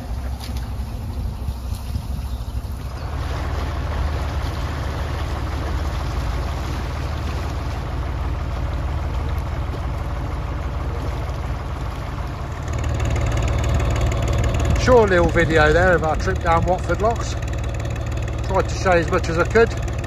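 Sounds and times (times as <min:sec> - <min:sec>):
boat engine running at low revs: 0:00.0 - 0:20.0.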